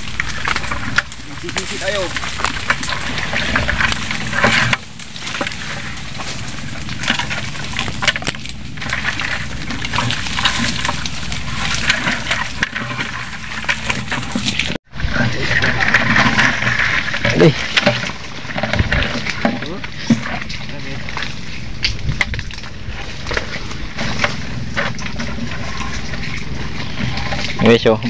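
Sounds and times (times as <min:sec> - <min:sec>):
leaves and twigs rustling: 0:00.0 - 0:28.0.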